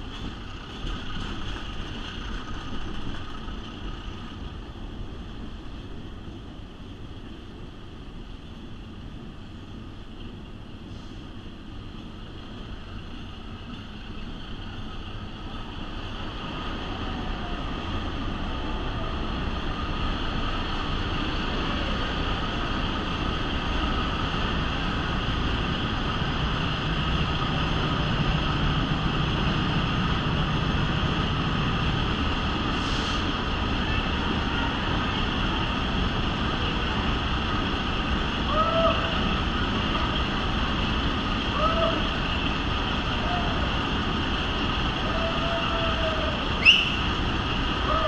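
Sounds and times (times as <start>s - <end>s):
locomotive engine drone: 0.0s - 48.0s
train wheels on rails: 0.0s - 48.0s.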